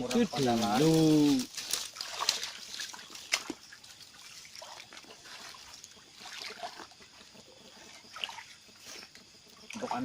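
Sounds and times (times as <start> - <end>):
shallow river water trickling: 0.0 - 10.0
soft water sloshes: 0.2 - 10.0.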